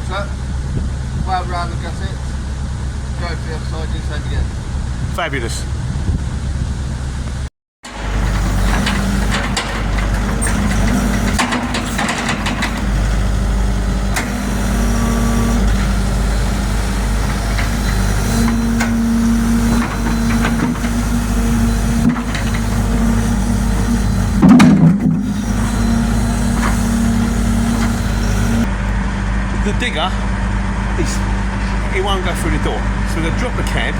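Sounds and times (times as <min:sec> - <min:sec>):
heavy vehicle engine running: 0:00.0 - 0:33.9.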